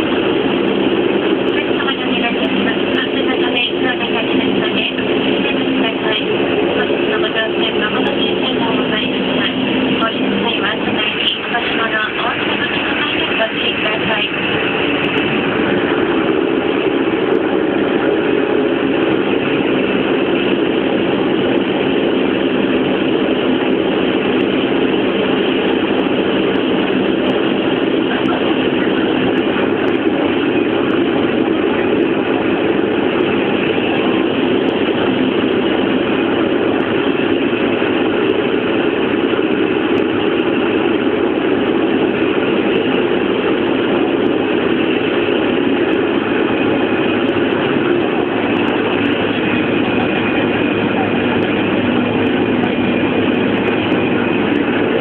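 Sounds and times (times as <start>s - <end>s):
hovercraft engines droning: 0.0s - 55.0s.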